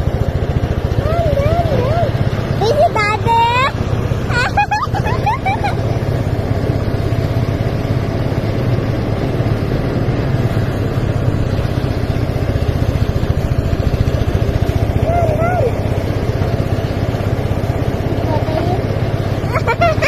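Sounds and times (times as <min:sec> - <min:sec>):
threshing machine engine running: 0:00.0 - 0:20.0.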